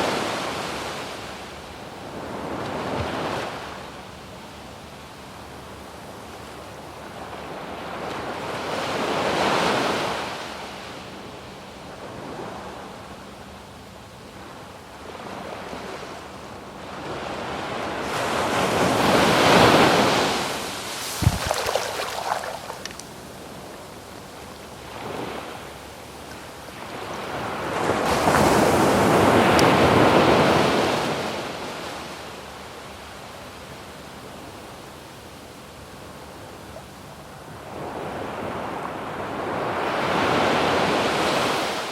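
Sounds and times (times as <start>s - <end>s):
waves breaking on sandy beach: 0.0s - 13.6s, 14.3s - 41.9s.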